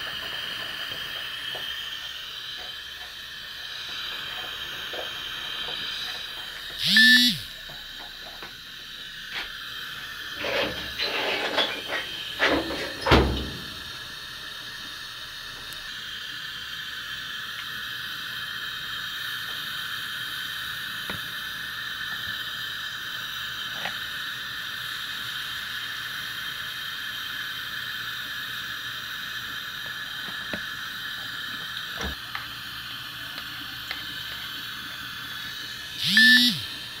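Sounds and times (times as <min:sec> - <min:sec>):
burner stove hissing rush: 0:00.0 - 0:37.0.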